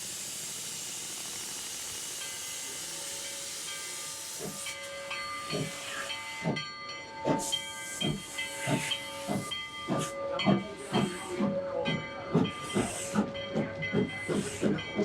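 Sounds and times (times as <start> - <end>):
steam hissing: 0.0 - 15.0
steam locomotive exhaust chuffs: 0.0 - 15.0.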